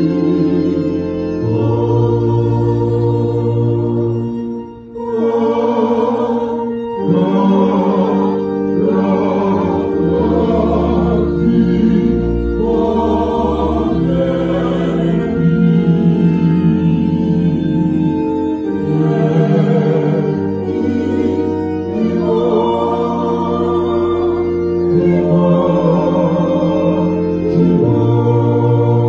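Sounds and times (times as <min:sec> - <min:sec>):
church choir singing: 0:00.0 - 0:29.0.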